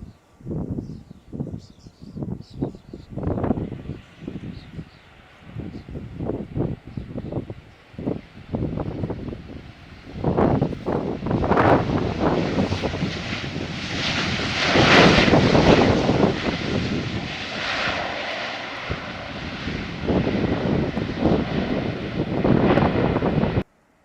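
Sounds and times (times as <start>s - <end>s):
airliner engines roaring: 2.1s - 23.7s.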